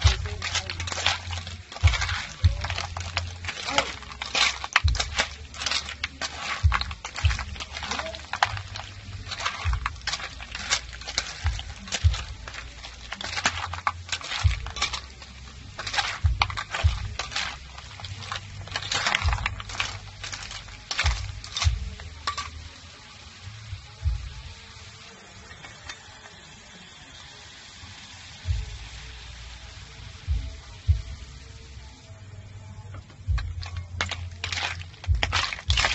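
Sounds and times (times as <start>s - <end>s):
snail shells clattering in a pan: 0.0s - 26.6s, 32.9s - 35.9s.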